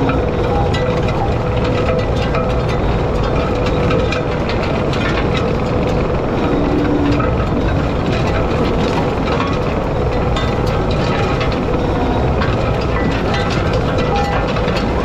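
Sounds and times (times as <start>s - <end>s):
diesel engine running under load: 0.0s - 15.0s
small clicks and rattles: 0.0s - 15.0s.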